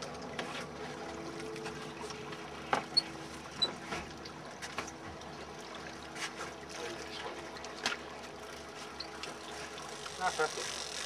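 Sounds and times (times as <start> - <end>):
water lapping and trickling: 0.0 - 11.0.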